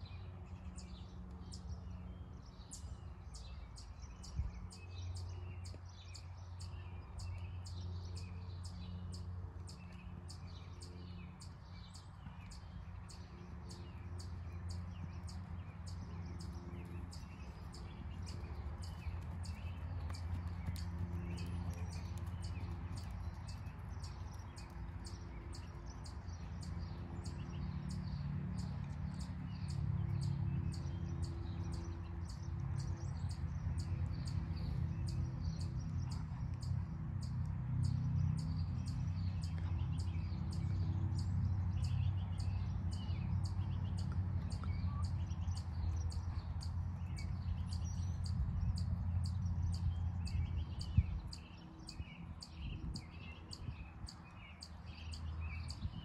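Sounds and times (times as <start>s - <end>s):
birds chirping: 0.0s - 56.0s
wind rumbling on microphone: 2.5s - 6.1s, 11.1s - 56.0s.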